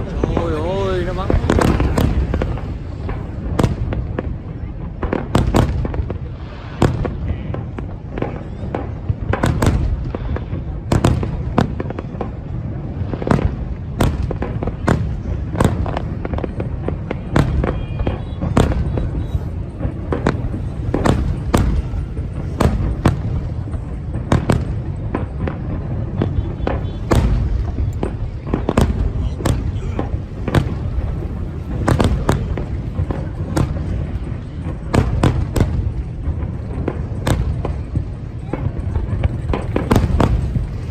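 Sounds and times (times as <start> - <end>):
low rumble of booms: 0.0 - 40.9.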